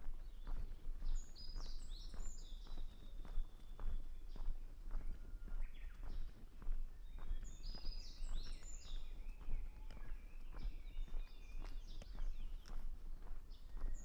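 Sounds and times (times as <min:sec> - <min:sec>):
bush warbler singing: 0:00.0 - 0:12.9
footsteps on a path: 0:00.0 - 0:14.0.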